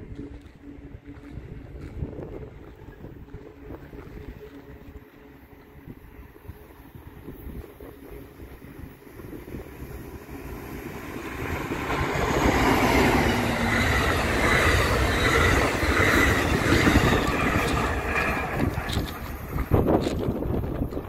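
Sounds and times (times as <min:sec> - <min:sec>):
passenger train passing: 0:00.0 - 0:21.0
train wheels on rails: 0:00.0 - 0:21.0.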